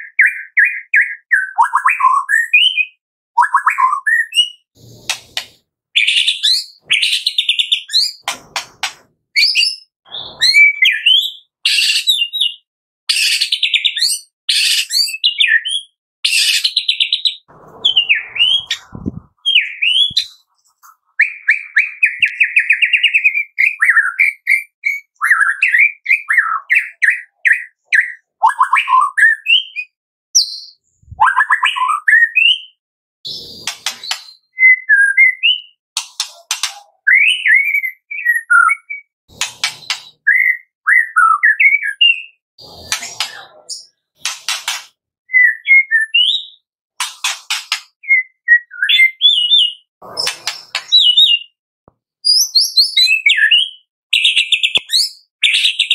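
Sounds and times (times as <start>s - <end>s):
songbird whistling and trilling: 0.0s - 4.7s, 6.0s - 8.3s, 9.4s - 20.4s, 21.2s - 35.8s, 36.5s - 44.0s, 45.3s - 46.7s, 48.0s - 51.6s, 52.2s - 55.9s.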